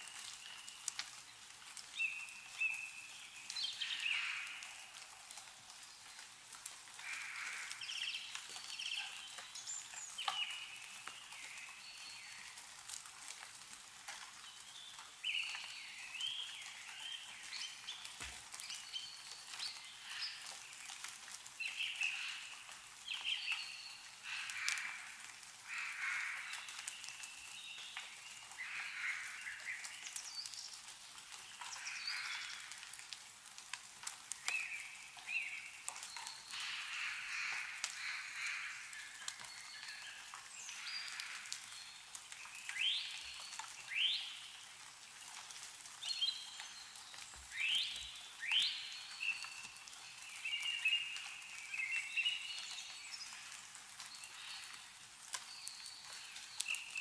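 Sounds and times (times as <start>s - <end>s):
meltwater dripping from trees: 0.0s - 57.0s
small birds chirping: 7.0s - 13.4s, 14.2s - 33.2s, 34.2s - 57.0s.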